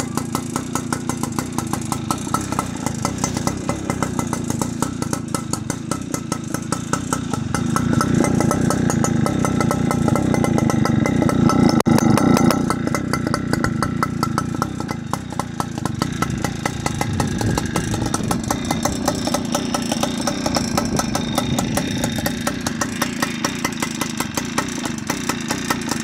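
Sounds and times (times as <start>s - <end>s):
moped engine idling: 0.0s - 26.0s.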